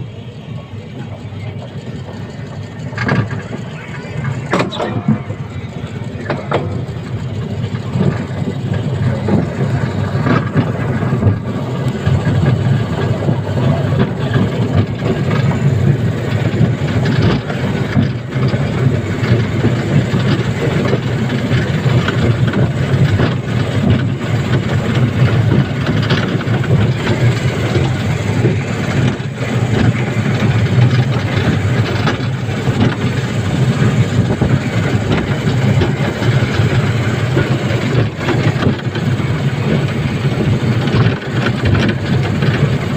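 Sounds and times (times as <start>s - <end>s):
train rumbling on track: 0.0s - 42.9s
track clicks and creaks: 0.8s - 42.9s.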